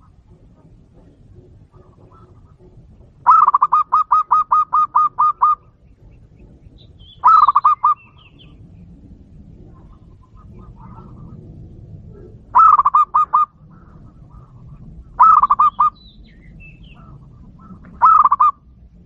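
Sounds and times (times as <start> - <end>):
dove cooing: 0.0 - 5.8, 6.4 - 8.6, 9.5 - 18.7.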